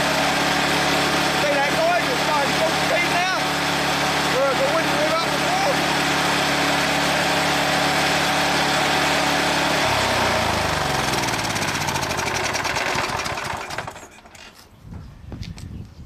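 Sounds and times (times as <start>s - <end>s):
lawn mower engine running down: 0.0s - 14.6s.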